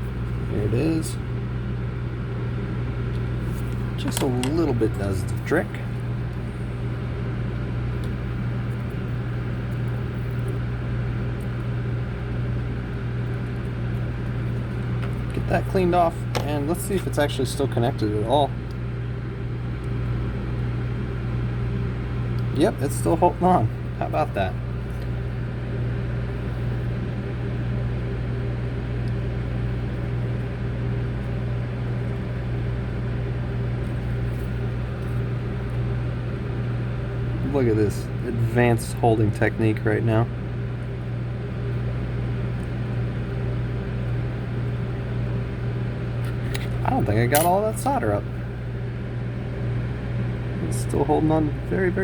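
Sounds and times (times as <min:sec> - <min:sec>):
low electrical hum with hiss: 0:00.0 - 0:52.0.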